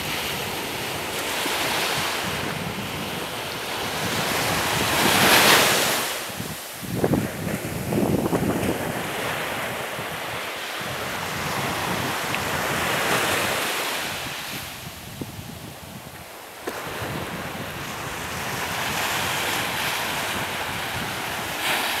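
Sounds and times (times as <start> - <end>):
small waves on sandy beach: 0.0 - 22.0
wind buffeting microphone: 0.0 - 22.0.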